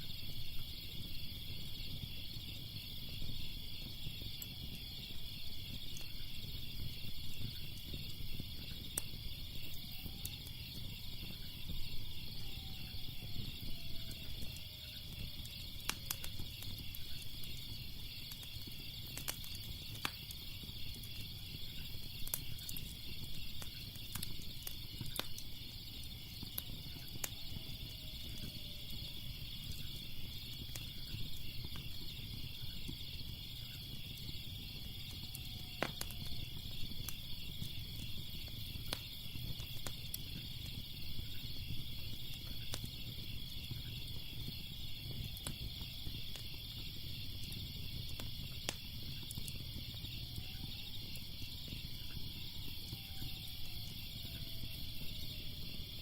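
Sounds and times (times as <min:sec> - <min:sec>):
crickets chirping: 0:00.0 - 0:56.0
wood fire crackling: 0:00.0 - 0:56.0.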